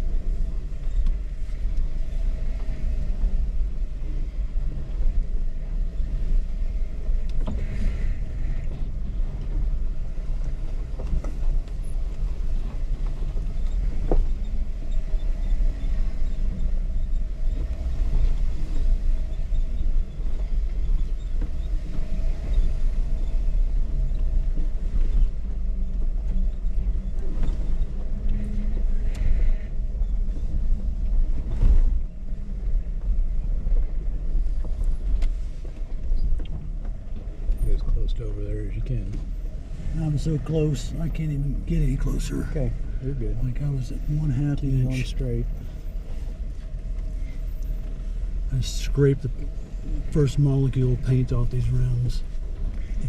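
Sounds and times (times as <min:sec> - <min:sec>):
engine low rumble: 0:00.0 - 0:53.0.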